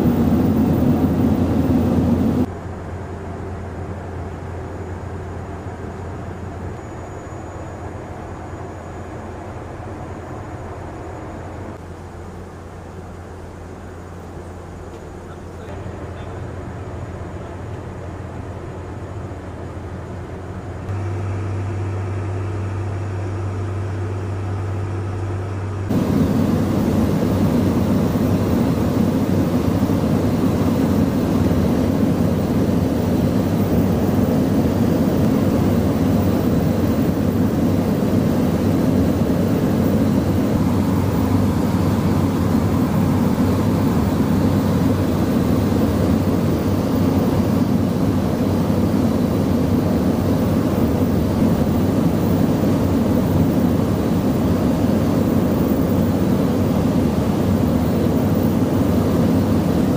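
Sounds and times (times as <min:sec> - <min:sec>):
rush of airflow and engine noise: 0:00.0 - 0:59.9
turboprop engines droning: 0:00.0 - 0:59.9.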